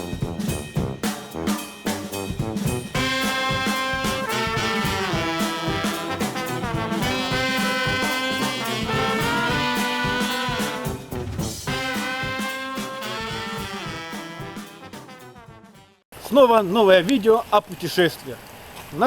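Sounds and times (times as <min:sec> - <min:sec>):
steady drum beat: 0:00.0 - 0:15.8
brass horns playing swing jazz: 0:00.0 - 0:16.0.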